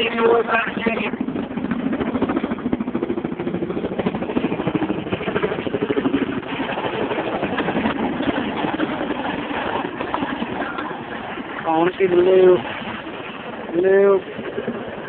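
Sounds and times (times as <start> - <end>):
helicopter engines droning: 0.0 - 15.0
helicopter rotors beating: 0.0 - 15.0.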